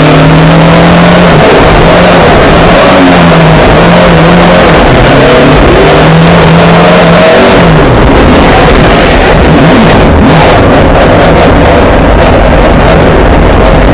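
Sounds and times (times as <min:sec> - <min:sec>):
rally car engine at full load: 0:00.0 - 0:13.9.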